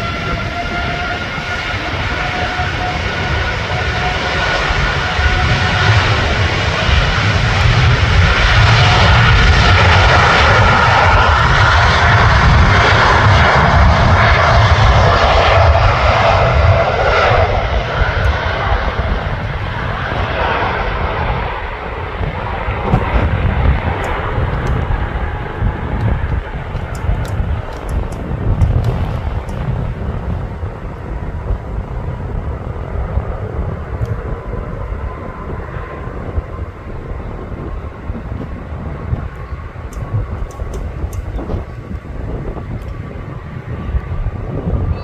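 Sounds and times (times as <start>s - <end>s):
jet engines roaring: 0.0s - 45.0s
wind buffeting microphone: 0.0s - 45.0s.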